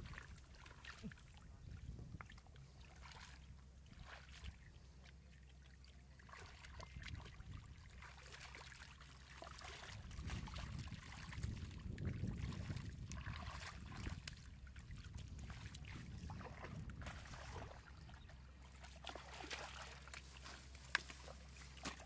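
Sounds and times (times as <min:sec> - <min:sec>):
wet splashes and squelches in mud: 0:00.0 - 0:22.0.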